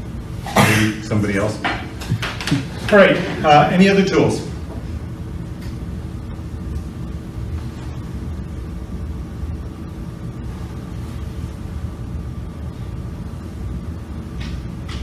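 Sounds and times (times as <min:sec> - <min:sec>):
low room rumble and hum: 0:00.0 - 0:15.0.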